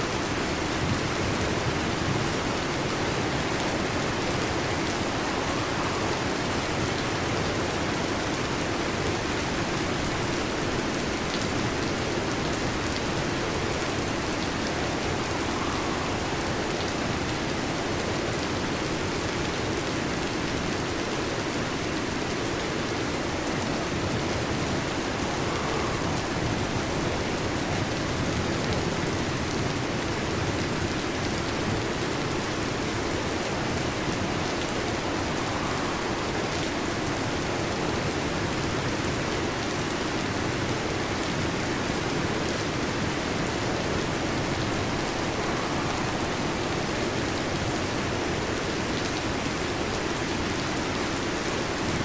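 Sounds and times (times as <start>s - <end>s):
heavy rain on a metal roof: 0.0s - 52.0s.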